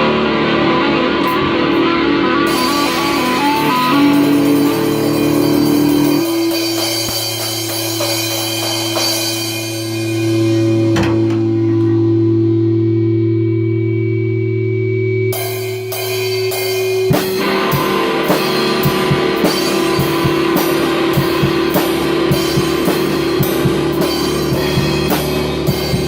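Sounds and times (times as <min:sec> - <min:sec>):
electric guitar playing: 0:00.0 - 0:26.0.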